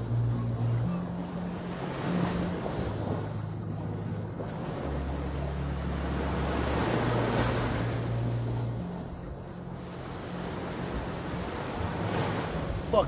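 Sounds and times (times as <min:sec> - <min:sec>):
steady low hum: 0:00.0 - 0:12.8
waves washing onto beach: 0:00.0 - 0:13.0.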